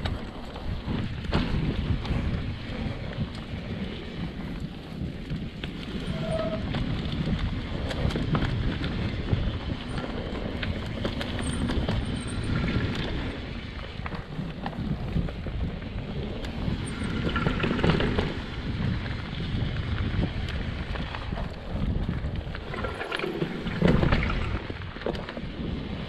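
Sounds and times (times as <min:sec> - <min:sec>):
bike clicks and rattles: 0:00.0 - 0:26.0
tyres rolling on dirt: 0:00.0 - 0:26.0
wind rushing over microphone: 0:00.0 - 0:26.0.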